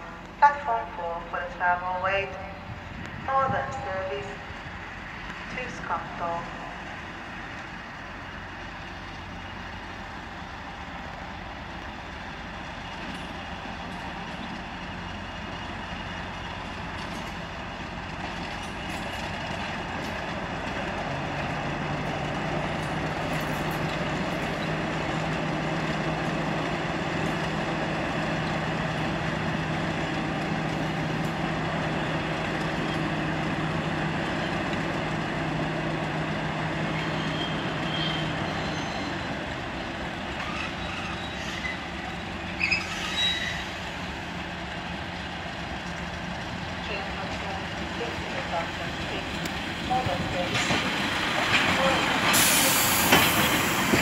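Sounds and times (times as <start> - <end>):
train running: 0.0 - 54.0.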